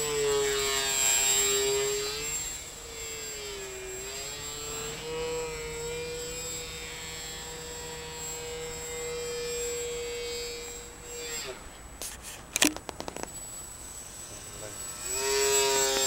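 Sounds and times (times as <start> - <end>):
model aircraft motor whine: 0.0 - 11.8, 12.6 - 16.0.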